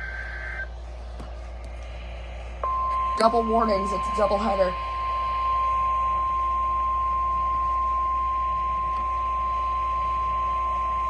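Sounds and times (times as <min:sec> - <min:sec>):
steady alarm beep: 0:00.0 - 0:00.7, 0:02.6 - 0:11.0.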